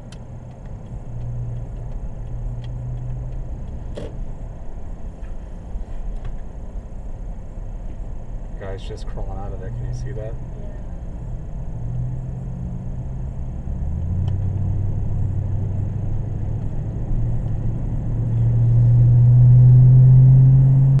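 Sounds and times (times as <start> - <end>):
vehicle engine and tyre noise: 0.0 - 21.0.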